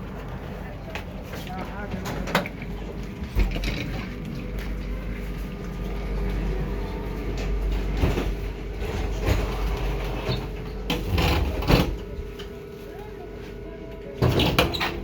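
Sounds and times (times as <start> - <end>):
tram rumbling along track: 0.0 - 15.0.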